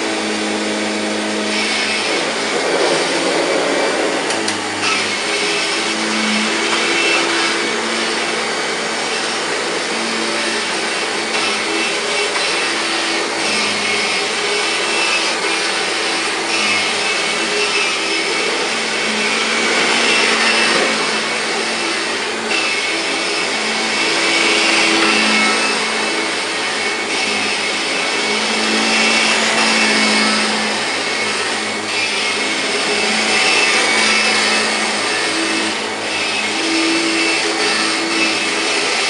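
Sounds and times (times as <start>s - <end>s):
vacuum cleaner droning on carpet: 0.0s - 39.0s.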